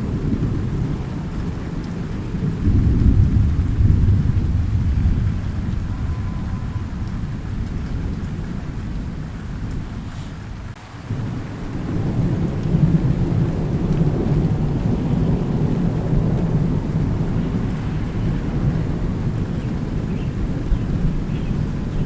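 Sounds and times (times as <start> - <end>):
rain hissing: 0.0 - 22.0
thunder rumbling: 0.0 - 22.0.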